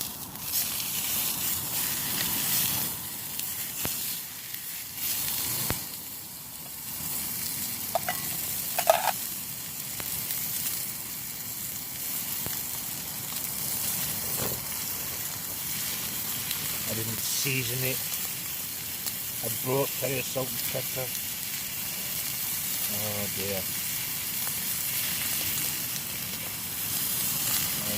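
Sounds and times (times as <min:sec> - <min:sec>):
steak sizzling in a pan: 0:00.0 - 0:27.9.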